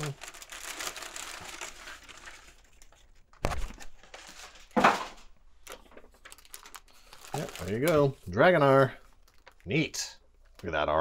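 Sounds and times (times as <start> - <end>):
paper rustling and crinkling: 0.0 - 10.7.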